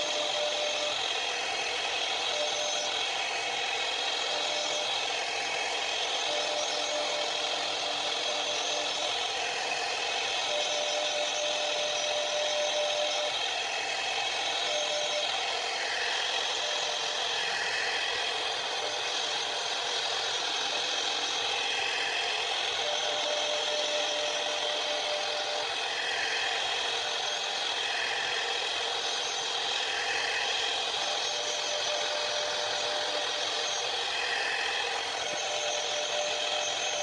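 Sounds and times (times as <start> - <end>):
hiss of cutting wood: 0.0 - 37.0
router spindle whine: 0.0 - 37.0.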